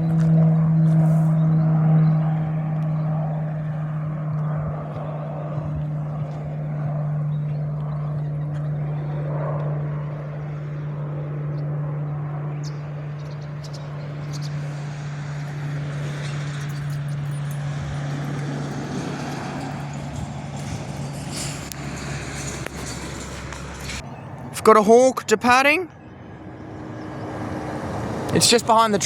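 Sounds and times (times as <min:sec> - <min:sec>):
propeller aircraft drone: 0:00.0 - 0:29.0.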